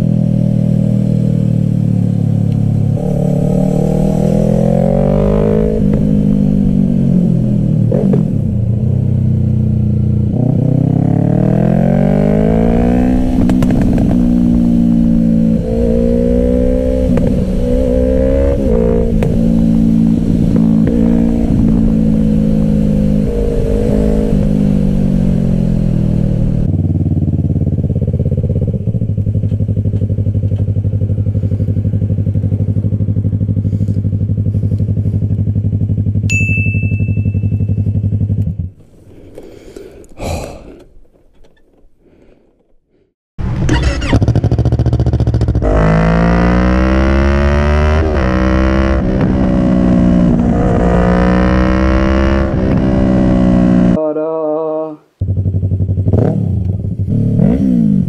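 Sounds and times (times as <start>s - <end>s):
motorcycle engine revving: 0.0s - 40.0s, 42.2s - 54.0s, 55.2s - 58.0s.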